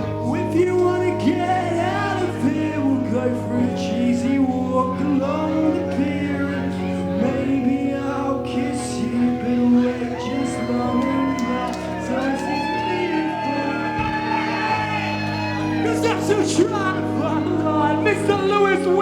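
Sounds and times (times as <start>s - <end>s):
guitar: 0.0s - 19.0s
person singing: 0.0s - 19.0s.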